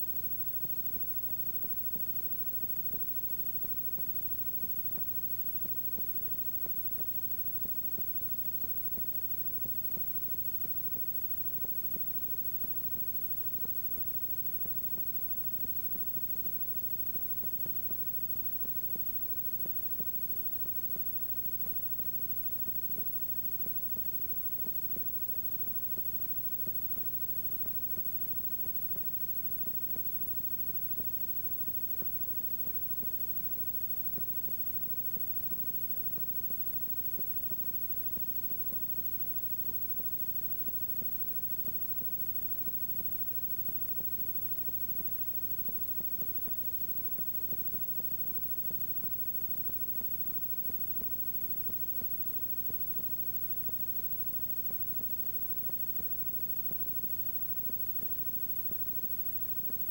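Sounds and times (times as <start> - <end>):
tape hiss: 0.0 - 59.9.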